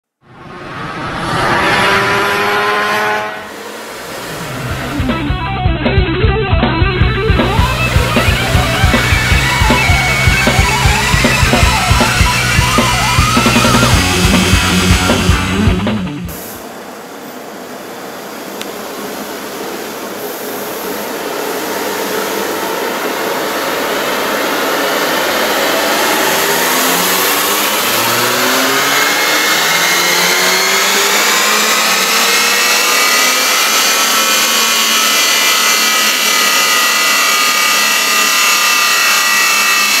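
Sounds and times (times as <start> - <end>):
car engine revving under load: 0.2 - 16.7, 20.6 - 40.0.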